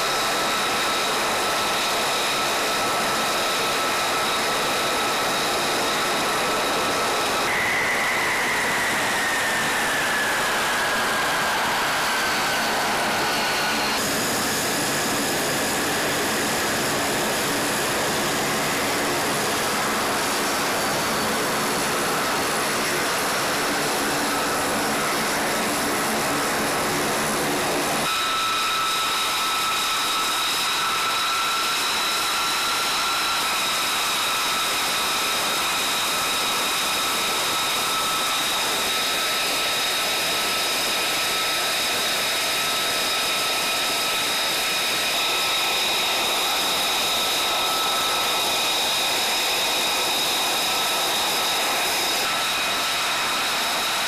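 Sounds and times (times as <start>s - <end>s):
jet engine idling with whine: 0.0s - 54.0s.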